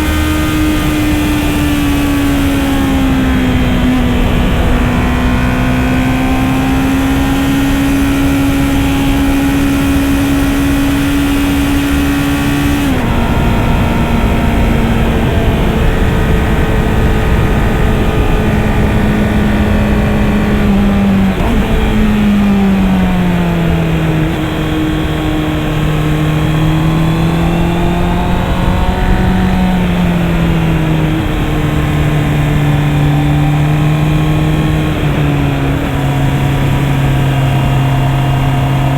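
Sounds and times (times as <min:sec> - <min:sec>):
motorcycle engine at high pitch: 0:00.0 - 0:38.9
wind noise rushing: 0:00.1 - 0:36.0.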